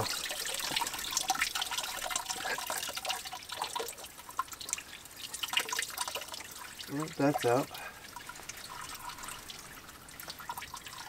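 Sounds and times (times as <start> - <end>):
coolant dripping and trickling: 0.0 - 11.0.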